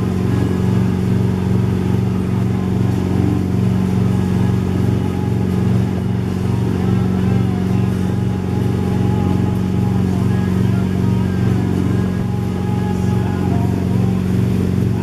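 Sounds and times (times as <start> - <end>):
boat engine droning: 0.0 - 15.0
churning wake water rushing: 0.0 - 15.0.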